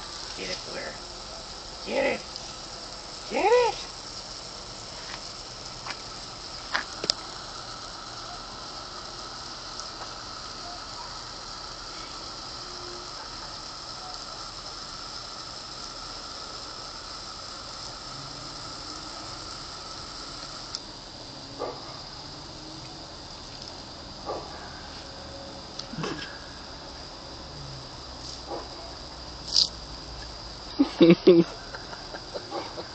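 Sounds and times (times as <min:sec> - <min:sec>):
sprinkler spraying water: 0:00.0 - 0:32.9.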